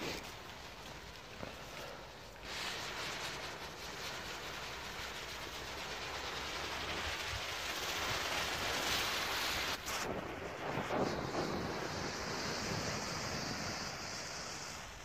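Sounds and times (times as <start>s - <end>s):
ground firework hissing: 0.0s - 15.0s.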